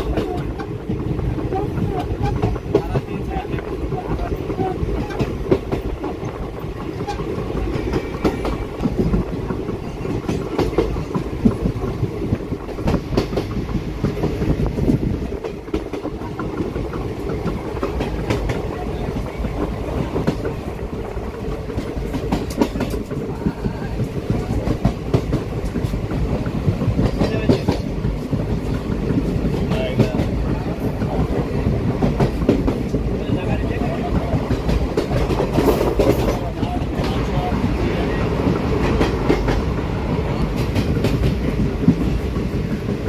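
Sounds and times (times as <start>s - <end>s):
train coach rumble: 0.0s - 43.0s
wheels clacking over rail joints: 0.0s - 43.0s.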